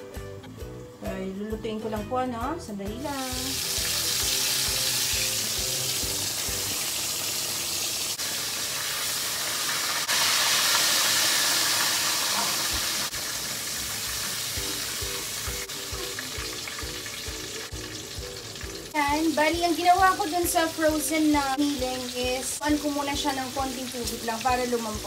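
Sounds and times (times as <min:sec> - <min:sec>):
meat deep-frying in oil: 0:03.1 - 0:25.0.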